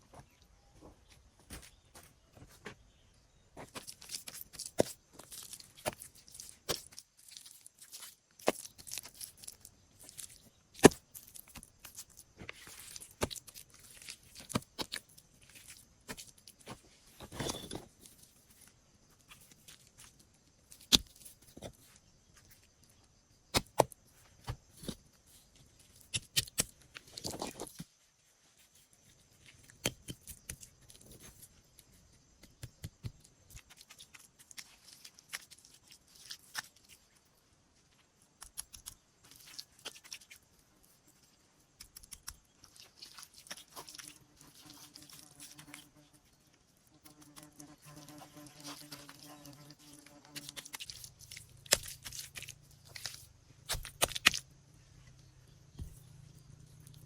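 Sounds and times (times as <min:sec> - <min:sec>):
dry material cracking and rustling: 0:03.6 - 0:23.1, 0:23.8 - 0:54.5.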